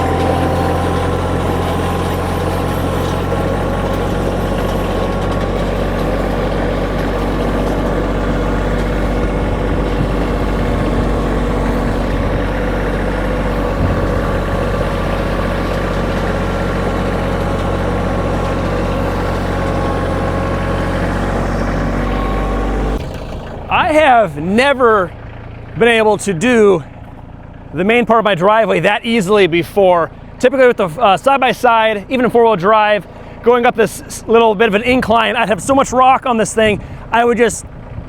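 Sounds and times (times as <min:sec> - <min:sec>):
drag scraping over gravel: 0:00.0 - 0:37.5
tractor diesel engine running: 0:00.0 - 0:38.0.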